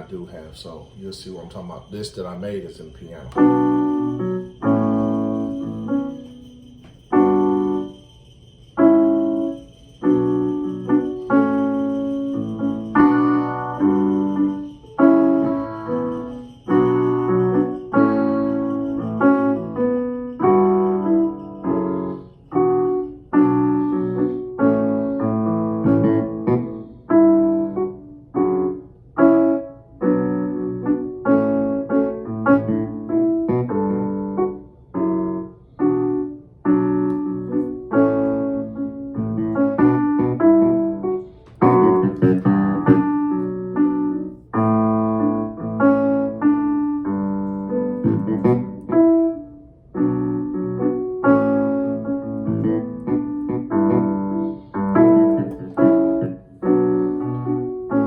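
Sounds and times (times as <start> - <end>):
piano chords on digital keyboard: 0.0 - 58.0.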